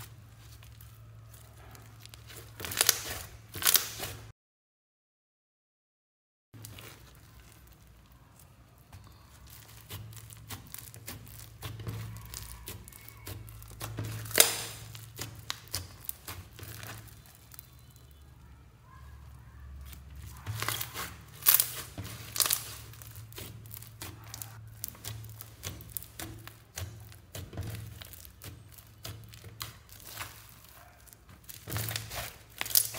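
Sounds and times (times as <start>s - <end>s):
foam bead slime crackling: 0.0s - 4.3s, 6.6s - 32.9s.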